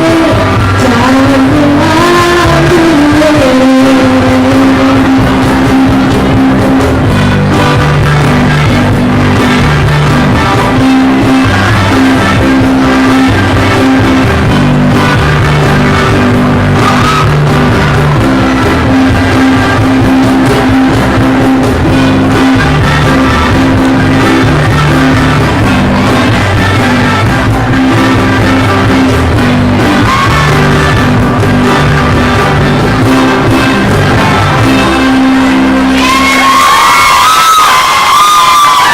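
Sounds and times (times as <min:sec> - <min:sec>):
person singing: 0:00.0 - 0:36.6
live rock band playing: 0:00.0 - 0:38.8.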